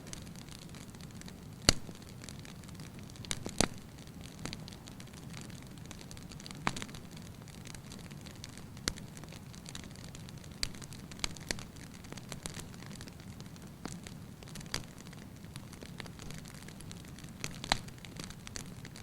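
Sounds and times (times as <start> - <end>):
flames rustling: 0.0 - 19.0
wood fire crackling pops: 0.0 - 19.0.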